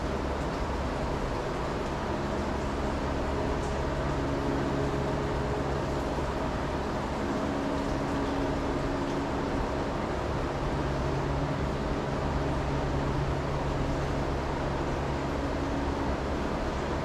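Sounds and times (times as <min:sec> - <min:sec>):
ventilation fans humming: 0:00.0 - 0:17.0.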